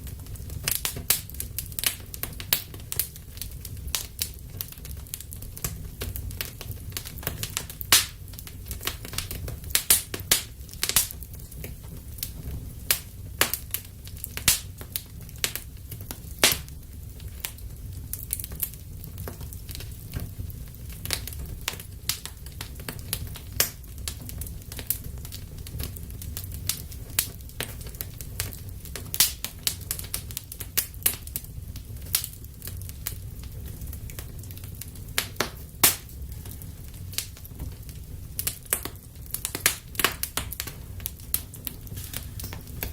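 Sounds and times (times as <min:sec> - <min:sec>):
fire crackles and pops: 0:00.0 - 0:42.9
fire flames rumbling: 0:00.0 - 0:42.9.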